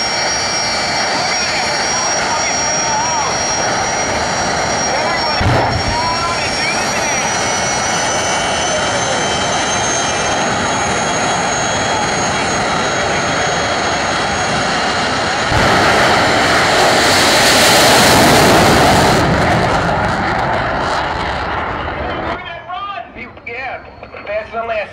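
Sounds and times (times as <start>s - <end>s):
jet afterburner roar: 0.0s - 24.9s
jet engine whine: 0.0s - 24.9s.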